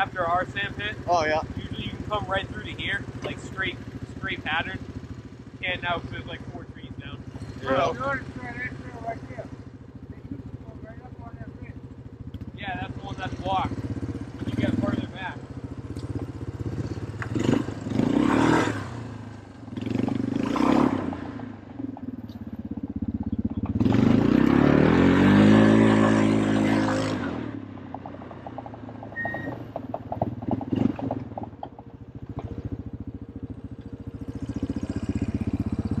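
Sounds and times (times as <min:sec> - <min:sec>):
off-road vehicle engine revving: 0:00.0 - 0:36.0.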